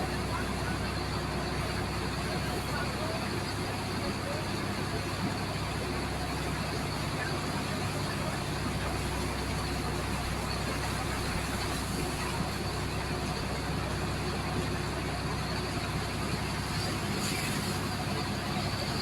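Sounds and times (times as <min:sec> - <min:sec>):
engine droning: 0:00.0 - 0:19.0
water jet blasting into sand: 0:00.0 - 0:19.0.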